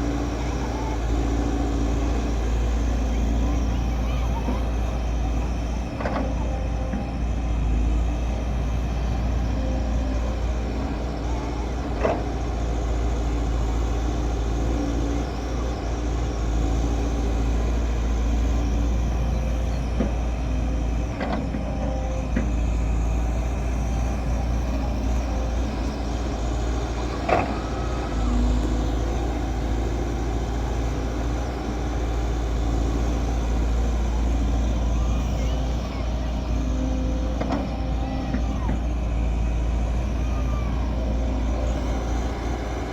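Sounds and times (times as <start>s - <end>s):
heavy diesel machinery rumbling: 0.0s - 42.9s.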